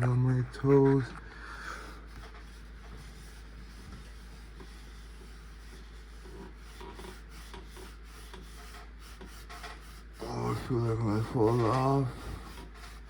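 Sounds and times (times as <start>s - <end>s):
cloth rubbing fan blade: 1.8s - 13.0s.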